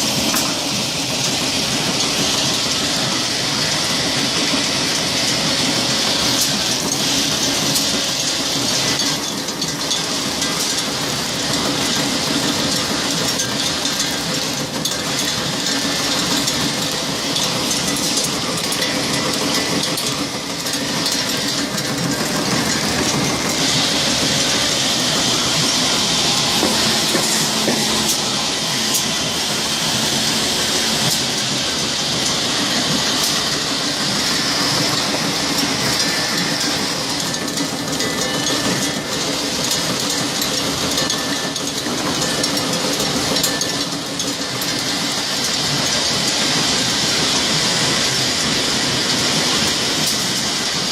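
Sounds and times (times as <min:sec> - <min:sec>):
wrapping machine clatter and hiss: 0:00.0 - 0:50.9.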